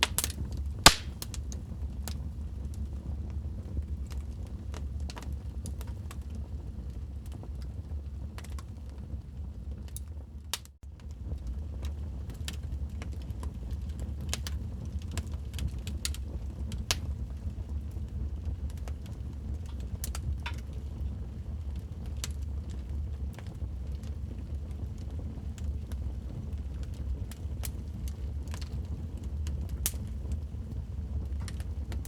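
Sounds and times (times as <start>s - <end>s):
low rumble of flames: 0.0s - 32.0s
wood fire crackling: 0.0s - 32.0s.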